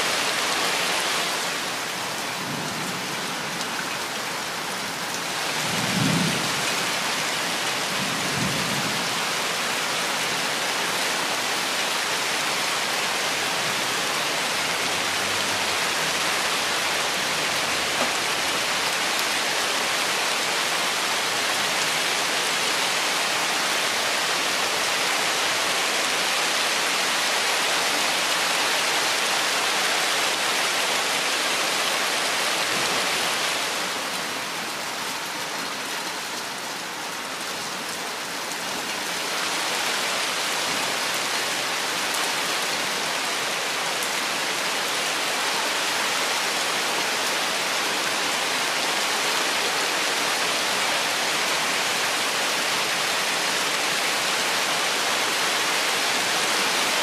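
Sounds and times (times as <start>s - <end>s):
rain on forest leaves: 0.0s - 57.0s.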